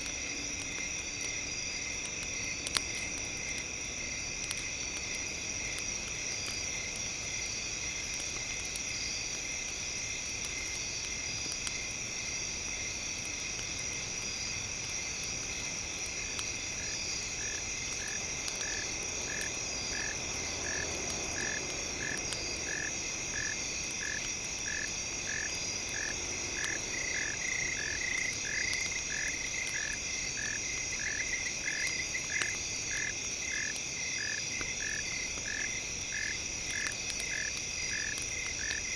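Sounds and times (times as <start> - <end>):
campfire crackling ticks: 0.0 - 38.9
insects chirring: 0.0 - 38.9.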